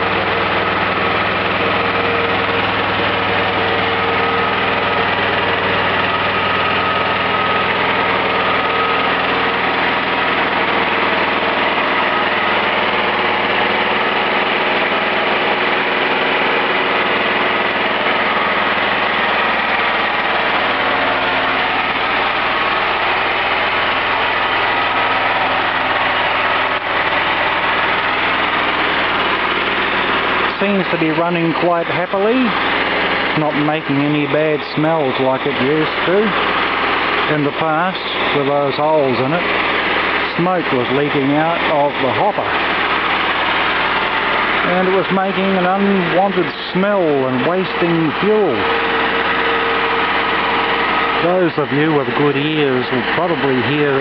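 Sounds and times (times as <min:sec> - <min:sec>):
small generator engine running: 0:00.0 - 0:54.0.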